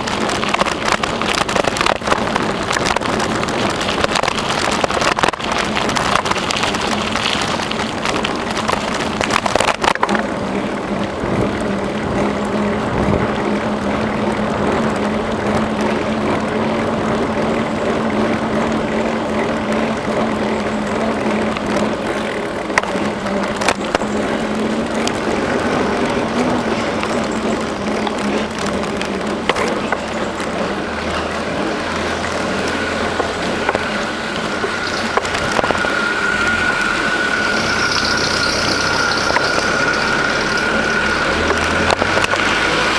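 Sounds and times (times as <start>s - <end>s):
bicycle tyres rolling on trail: 0.0s - 42.9s
bike rattling: 0.0s - 42.9s.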